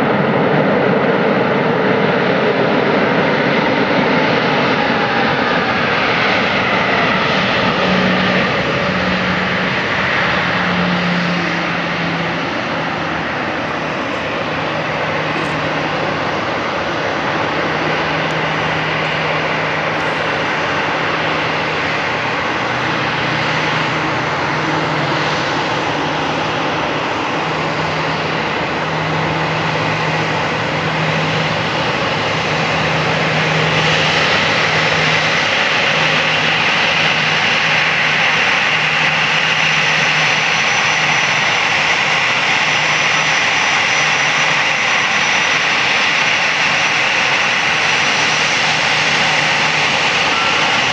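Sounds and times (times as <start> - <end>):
jet engines roaring with whine: 0.0 - 50.9.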